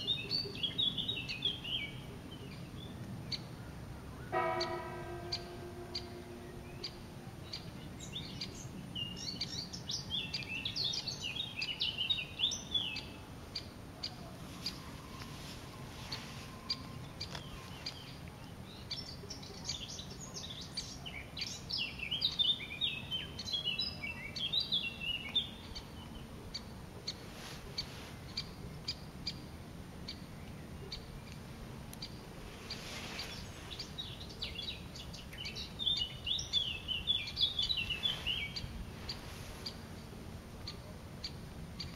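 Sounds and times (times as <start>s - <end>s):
bird chirping: 0.0s - 27.2s, 27.8s - 41.9s.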